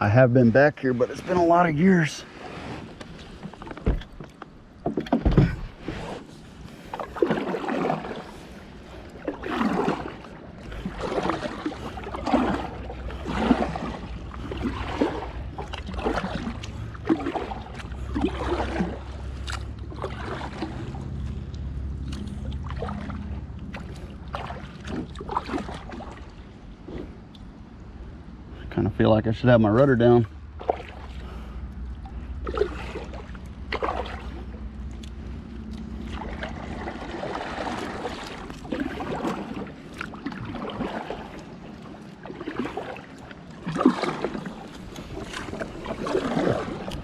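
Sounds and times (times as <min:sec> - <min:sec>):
low steady rumble: 0:00.0 - 0:47.0
paddle splashing through water: 0:00.9 - 0:27.5, 0:30.2 - 0:47.0.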